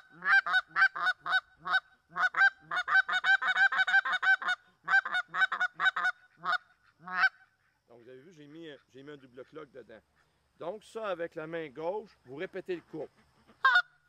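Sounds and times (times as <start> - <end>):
goose call clucks: 0.0 - 9.6, 12.0 - 14.0.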